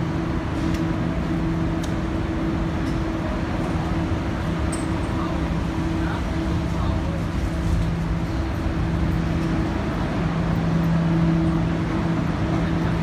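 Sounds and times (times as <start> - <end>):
subway train cabin rumble: 0.0 - 13.0.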